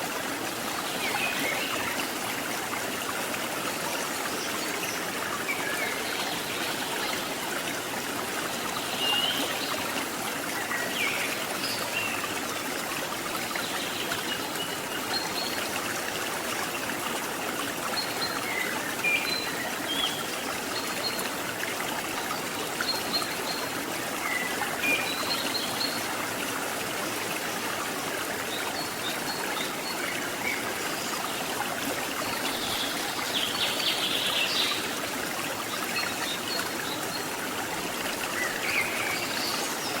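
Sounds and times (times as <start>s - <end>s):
waterfall and rushing stream: 0.0s - 40.0s.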